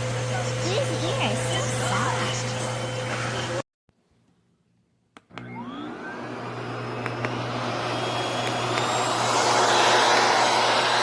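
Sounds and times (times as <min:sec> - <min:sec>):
vacuum motor whine: 0:00.0 - 0:03.6, 0:05.2 - 0:11.0.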